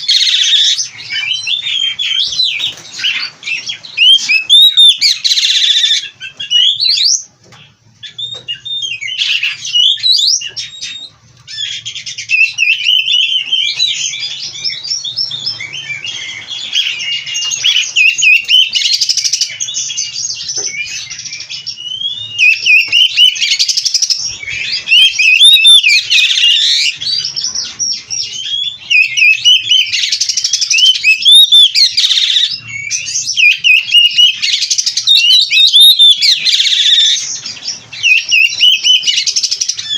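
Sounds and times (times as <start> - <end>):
bird singing varied whistles: 0.0 - 7.3, 8.0 - 39.9.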